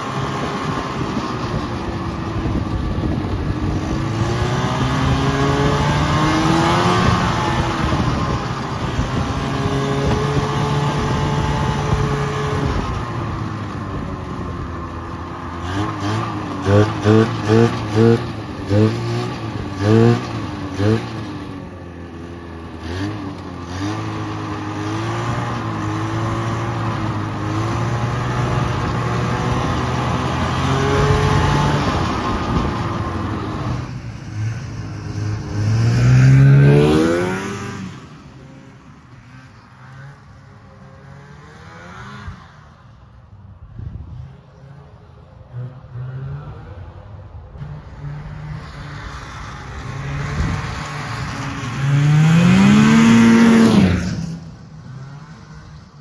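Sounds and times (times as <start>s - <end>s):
snowmobile engine revving: 0.0s - 42.8s, 44.2s - 47.0s, 47.6s - 56.0s.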